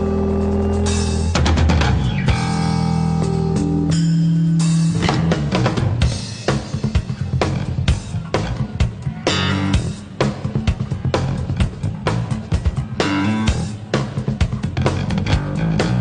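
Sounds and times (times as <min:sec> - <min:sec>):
bass guitar notes: 0:00.0 - 0:16.0
drum kit playing: 0:00.0 - 0:16.0.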